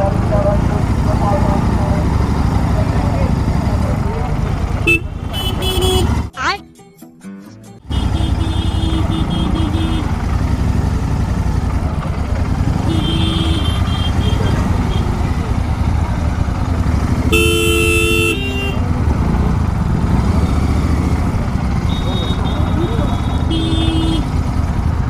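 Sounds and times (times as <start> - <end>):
motorcycle engine running: 0.0 - 6.4, 7.8 - 25.0
vehicle horns honking: 0.0 - 6.4, 7.8 - 10.9, 11.6 - 24.8.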